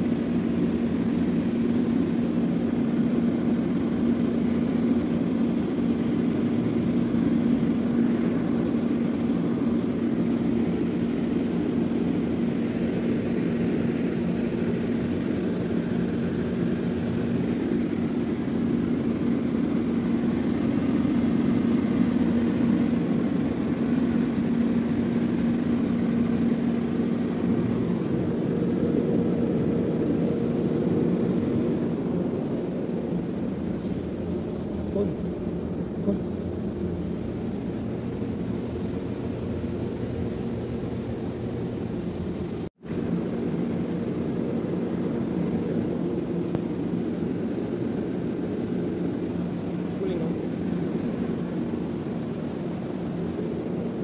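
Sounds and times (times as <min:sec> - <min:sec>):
refrigerator compressor humming: 0:00.0 - 0:54.0.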